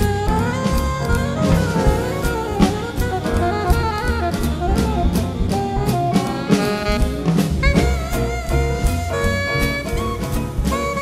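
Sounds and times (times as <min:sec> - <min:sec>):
big band playing swing jazz: 0:00.0 - 0:11.0.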